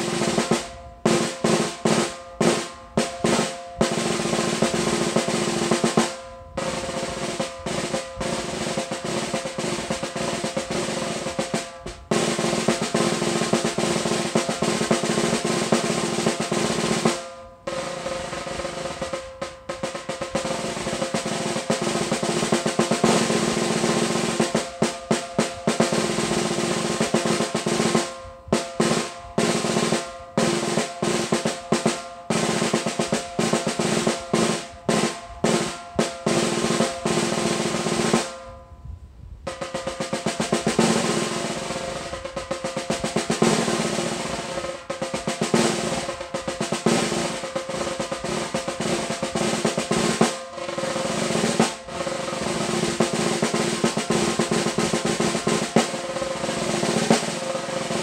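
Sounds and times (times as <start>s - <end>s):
snare drum rolls and strokes: 0.0s - 58.0s.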